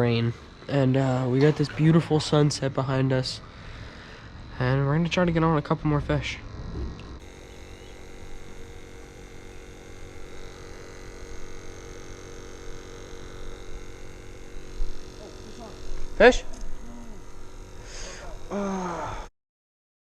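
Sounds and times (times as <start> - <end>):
steady multi-tone hum: 0.0 - 19.3.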